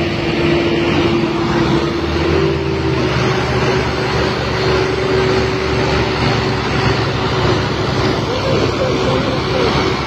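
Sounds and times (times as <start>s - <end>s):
tractor diesel engines under load: 0.0s - 10.0s.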